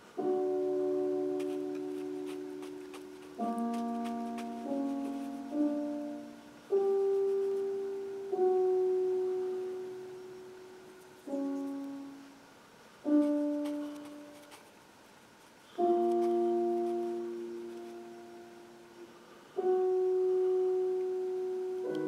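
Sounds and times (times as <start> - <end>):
slow sparse piano notes: 0.0 - 14.5, 15.7 - 22.0.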